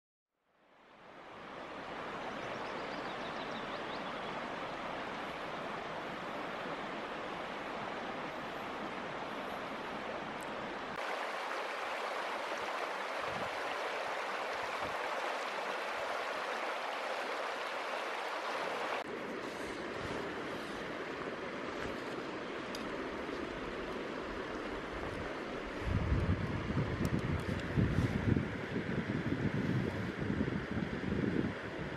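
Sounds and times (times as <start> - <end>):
stream running over stones: 1.0 - 28.4.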